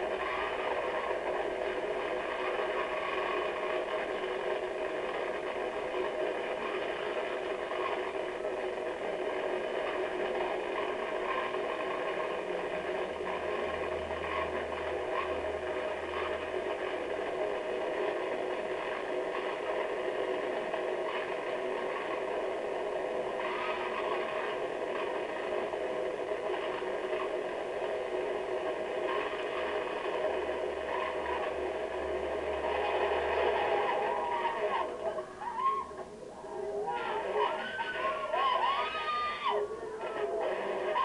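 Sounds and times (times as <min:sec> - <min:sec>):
low hum: 0:00.0 - 0:41.0
mechanical whir with hiss: 0:00.0 - 0:41.0.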